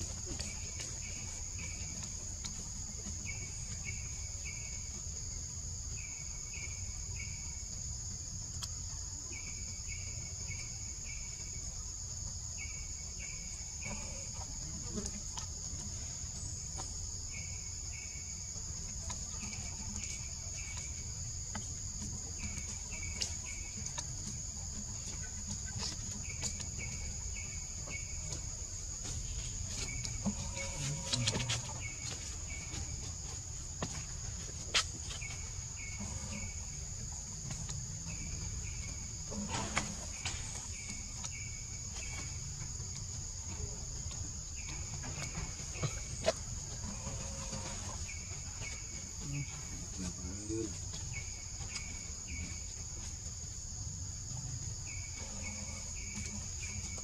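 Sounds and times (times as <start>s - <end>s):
cricket-like insect chirping: 0.0s - 57.0s.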